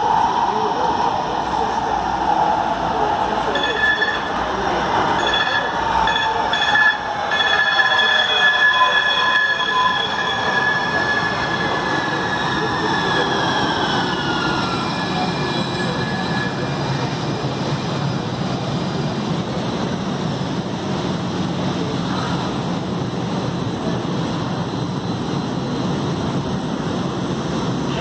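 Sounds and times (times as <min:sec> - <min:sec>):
standing train hum and rumble: 0:00.0 - 0:28.0
train whine decelerating: 0:00.0 - 0:28.0.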